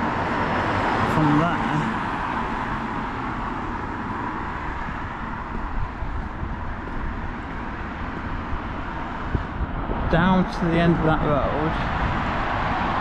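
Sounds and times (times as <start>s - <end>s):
road traffic hiss and rumble: 0.0s - 13.0s.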